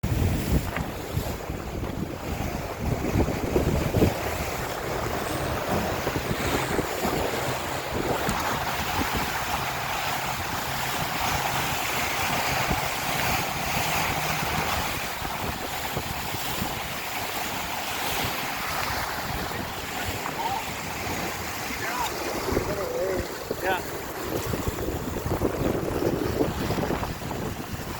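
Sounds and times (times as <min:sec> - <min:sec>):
water rushing along hull: 0:00.0 - 0:27.9
wind buffeting microphone: 0:00.0 - 0:27.9.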